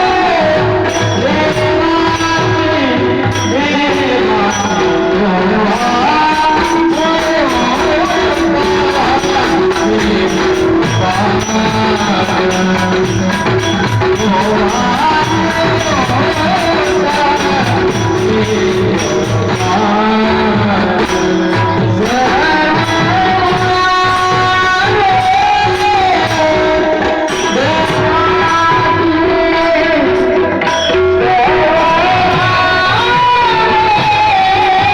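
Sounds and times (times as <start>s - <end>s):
hand cymbal strikes: 0.0s - 34.9s
man singing: 0.0s - 34.9s
sustained accompaniment: 0.0s - 34.9s.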